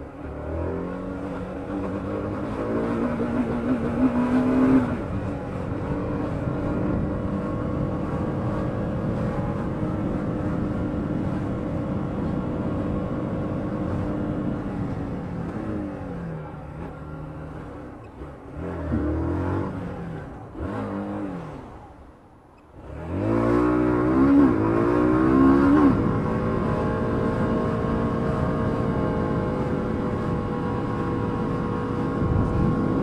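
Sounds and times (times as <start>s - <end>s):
motorcycle engine accelerating: 0.0s - 21.9s, 22.8s - 33.0s.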